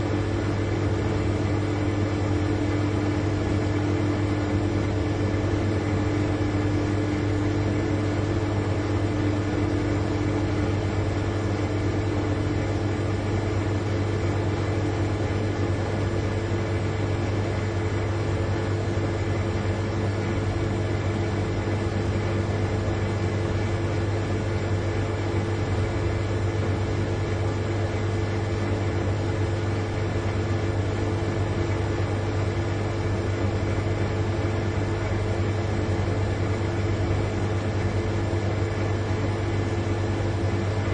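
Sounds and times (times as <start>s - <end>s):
refrigerator compressor hum: 0.0s - 40.9s.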